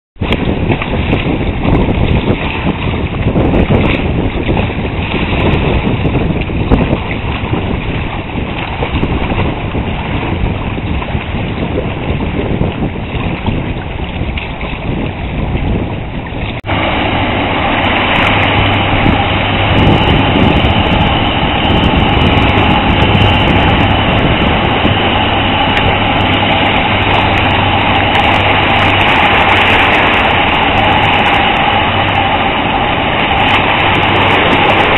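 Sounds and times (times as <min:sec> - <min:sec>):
tugboat diesel engine: 0:00.2 - 0:34.9
water rushing off bow: 0:00.2 - 0:34.9
wind buffeting microphone: 0:00.2 - 0:34.9.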